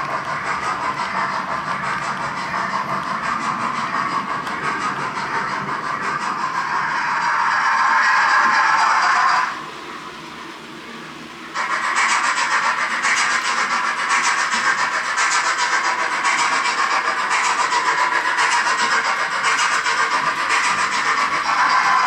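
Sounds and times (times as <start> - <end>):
steam chuffing through small speaker: 0.0 - 22.0.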